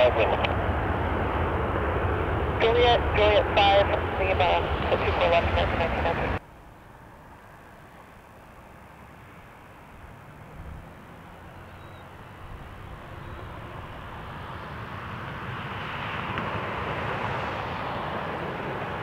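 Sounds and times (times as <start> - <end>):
jet engines of landing airplane: 0.0 - 19.0.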